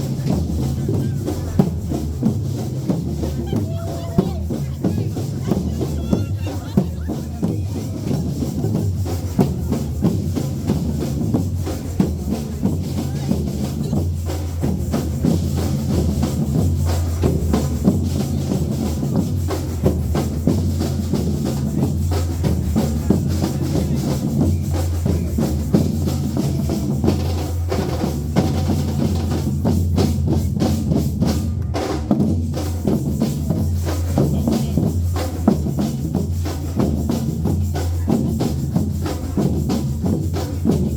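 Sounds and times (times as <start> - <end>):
driving drum rhythm: 0.0 - 40.9.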